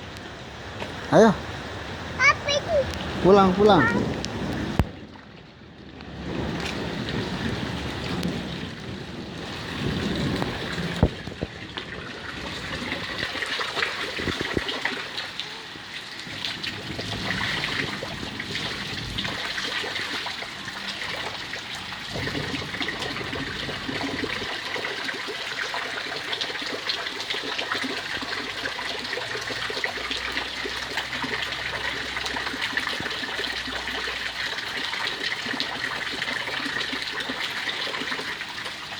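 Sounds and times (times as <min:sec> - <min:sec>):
steady rain: 0:00.0 - 0:38.9
water trickling and splashing: 0:00.0 - 0:38.9.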